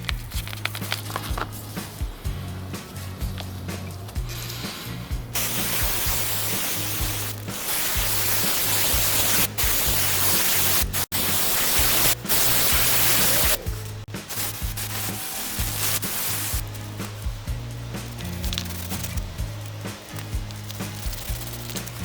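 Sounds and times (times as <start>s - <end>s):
background music with low beat: 0.0s - 22.0s
aerosol spray hissing: 4.2s - 22.0s.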